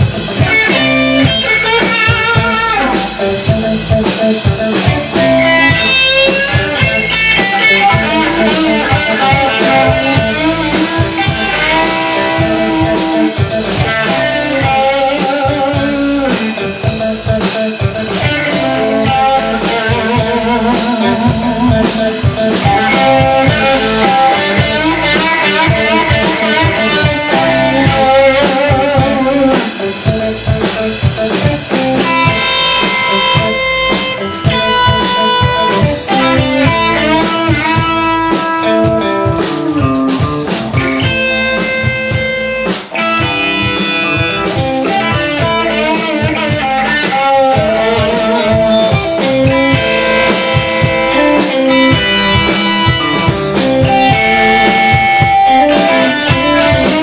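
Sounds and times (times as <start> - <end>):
bass guitar: 0.0 - 57.0
drum kit: 0.0 - 57.0
electric guitar lead: 0.0 - 57.0.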